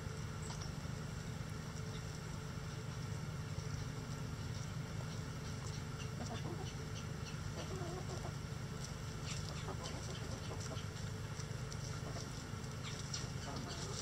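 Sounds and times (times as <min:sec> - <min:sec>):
steady low hum: 0:00.0 - 0:14.0
chickens clucking: 0:01.7 - 0:14.0.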